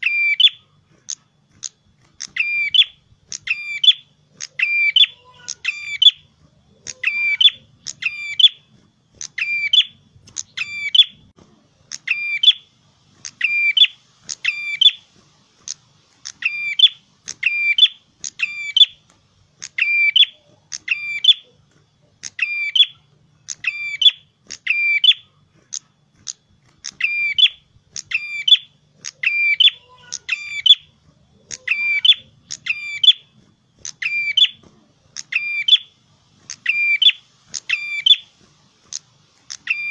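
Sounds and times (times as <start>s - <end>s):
bird sharp high calls: 0.0s - 1.2s, 2.2s - 8.6s, 9.2s - 11.2s, 11.9s - 15.1s, 16.3s - 19.0s, 19.6s - 21.6s, 22.2s - 25.8s, 26.8s - 33.3s, 33.9s - 34.6s, 35.2s - 38.3s, 39.5s - 39.9s.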